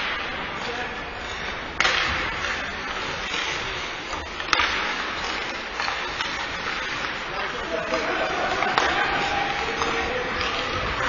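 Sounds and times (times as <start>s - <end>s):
skates scraping on ice: 0.0s - 11.0s.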